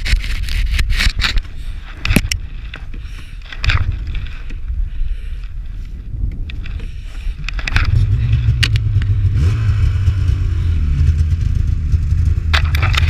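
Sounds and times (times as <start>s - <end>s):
snowmobile engine rumbling: 0.0s - 13.0s.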